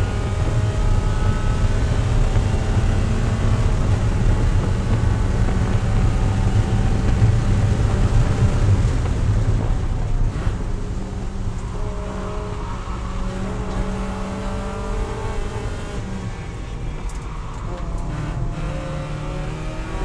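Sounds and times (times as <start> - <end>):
race car engine at full throttle: 0.0 - 20.0.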